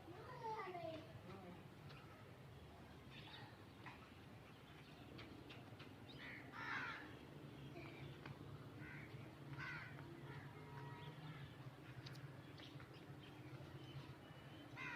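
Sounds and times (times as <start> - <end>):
birds calling faintly: 0.1 - 14.9.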